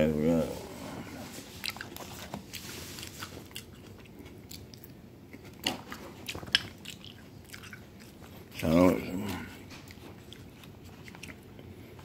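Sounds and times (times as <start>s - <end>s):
person chewing crunchy food: 0.7s - 12.0s.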